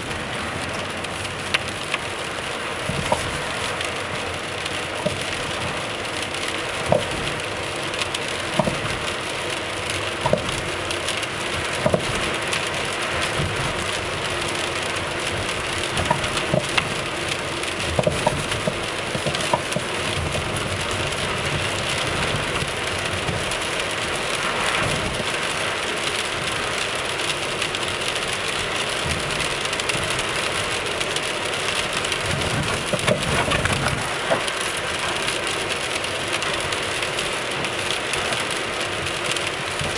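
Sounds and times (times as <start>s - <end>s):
road noise: 0.0s - 39.9s
suspension clicking and knocking: 2.7s - 25.5s, 26.2s - 39.9s.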